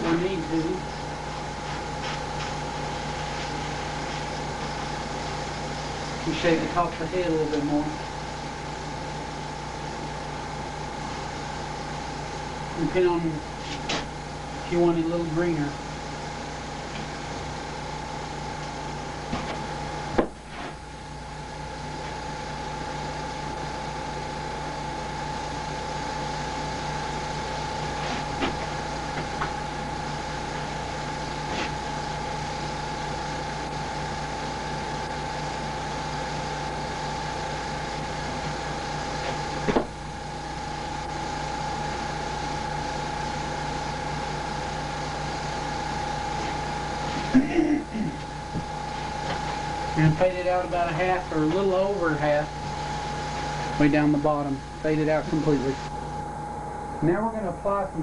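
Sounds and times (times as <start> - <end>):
airbrush compressor humming: 0.0 - 58.0.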